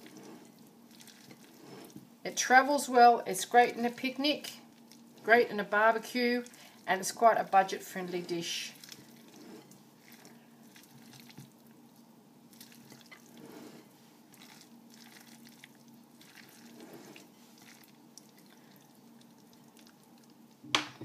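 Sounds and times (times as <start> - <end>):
spatula squelching potato salad: 0.0 - 20.5.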